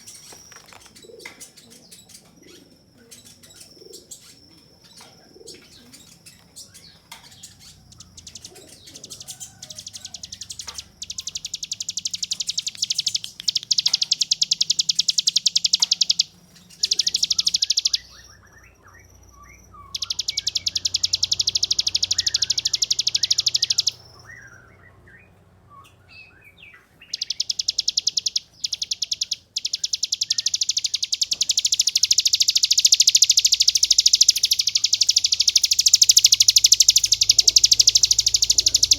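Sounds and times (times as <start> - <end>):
bird buzzy trilling song: 0.0 - 38.9
bird chirps: 0.0 - 38.9.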